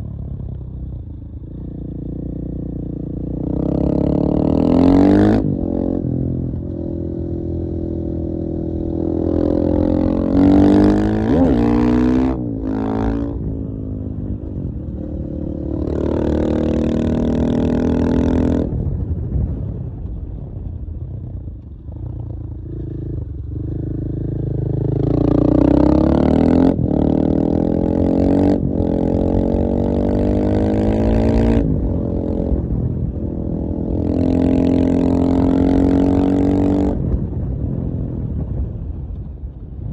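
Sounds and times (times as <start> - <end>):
motorcycle engine revving: 0.9 - 19.0, 21.8 - 38.4.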